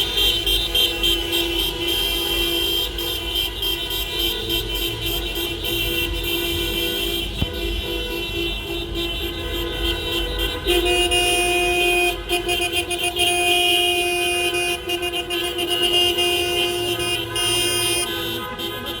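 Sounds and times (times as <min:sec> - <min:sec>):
car horns honking: 0:00.0 - 0:19.0.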